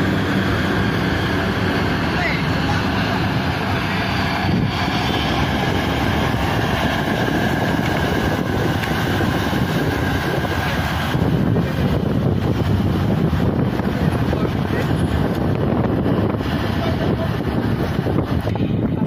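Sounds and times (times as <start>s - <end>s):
ferry engine noise: 0.0s - 19.0s
water splashing along hull: 0.0s - 19.0s.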